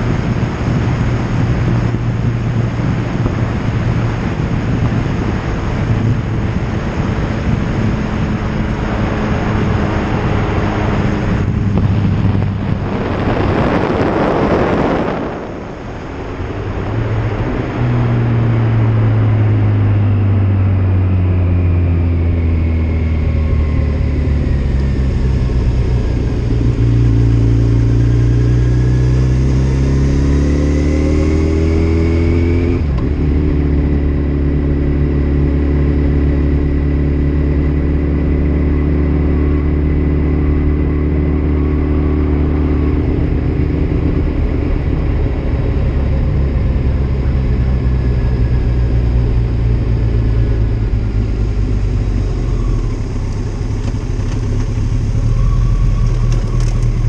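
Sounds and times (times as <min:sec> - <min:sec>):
motorcycle engine: 0:00.0 - 0:57.0
wind noise on microphone: 0:00.0 - 0:57.0.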